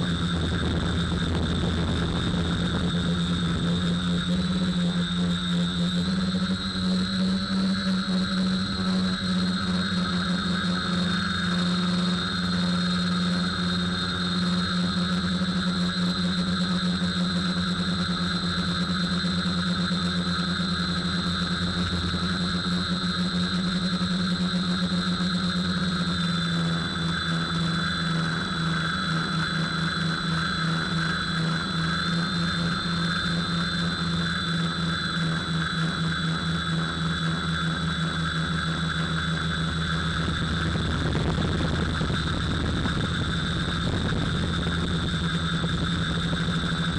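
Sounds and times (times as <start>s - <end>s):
drone motor and propellers whining: 0.0s - 46.9s.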